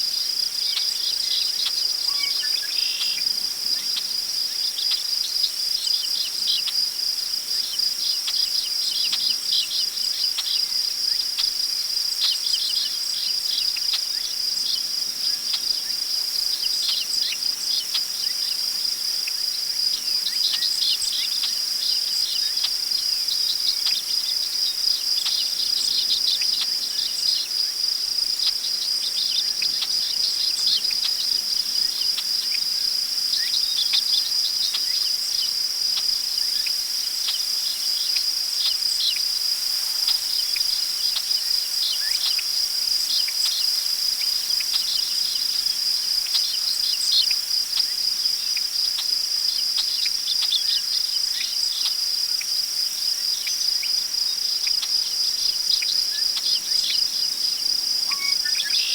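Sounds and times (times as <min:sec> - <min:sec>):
crickets trilling: 0:00.0 - 0:58.9.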